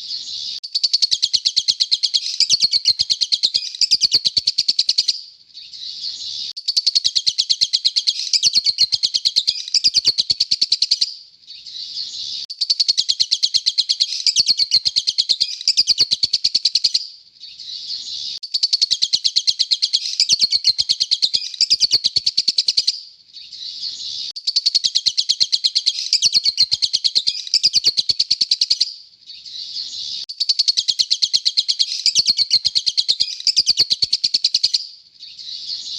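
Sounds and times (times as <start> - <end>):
lovebird chirping: 0.0 - 35.9.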